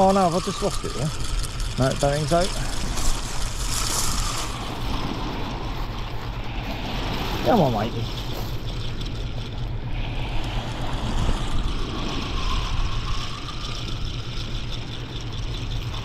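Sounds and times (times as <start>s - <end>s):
fishing reel winding: 0.0s - 16.0s
waves washing on shingle: 0.0s - 16.0s
wind rumble on microphone: 0.0s - 16.0s.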